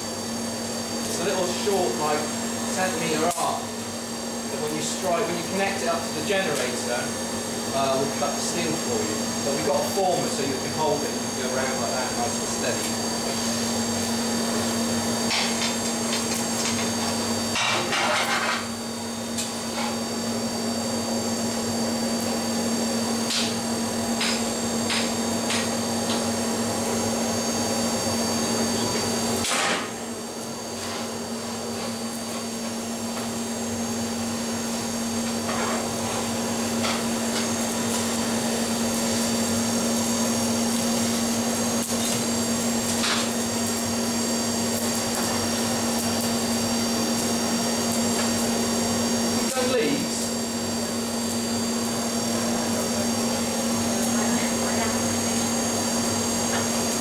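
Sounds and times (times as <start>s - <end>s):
forge blower humming: 0.0s - 57.0s.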